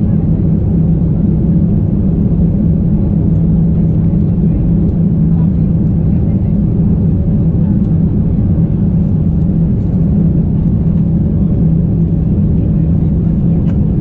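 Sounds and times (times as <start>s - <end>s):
airliner cabin rumble and hum: 0.0s - 14.0s.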